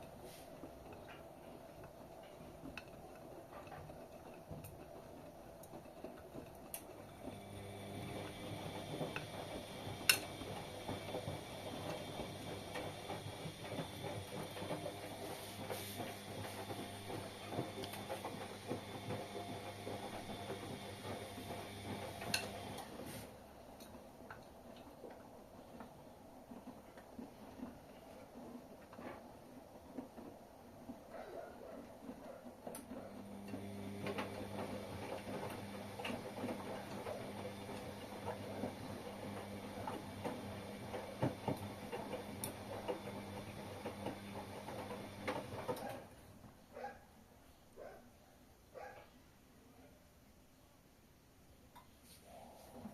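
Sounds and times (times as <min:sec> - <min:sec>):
washing machine motor hum: 0:00.0 - 0:46.9.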